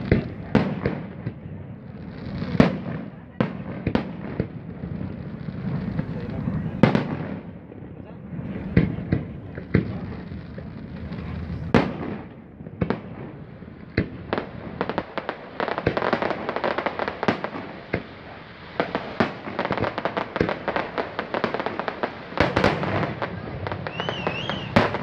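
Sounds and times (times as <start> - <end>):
firework bangs: 0.0 - 25.0
rapid crackling firework pops: 0.0 - 25.0.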